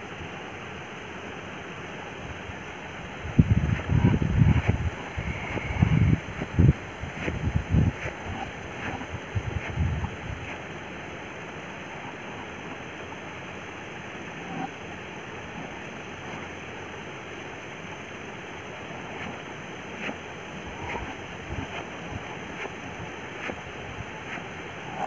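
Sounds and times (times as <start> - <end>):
stream hiss: 0.0 - 25.0.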